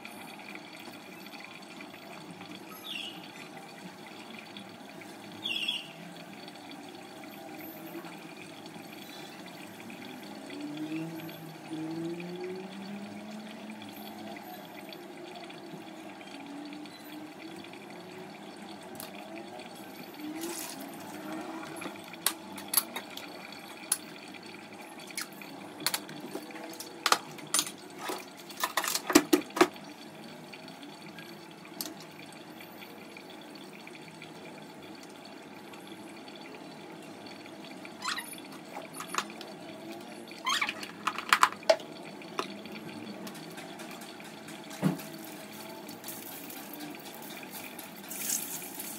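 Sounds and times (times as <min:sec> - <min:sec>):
water running: 0:00.0 - 0:48.9.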